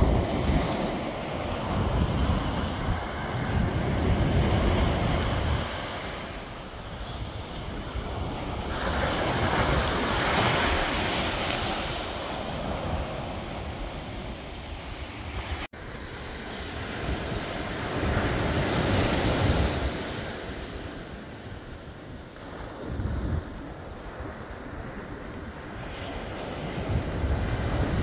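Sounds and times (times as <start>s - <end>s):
ocean surf breaking on beach: 0.0s - 28.0s
wind on microphone: 0.0s - 28.0s.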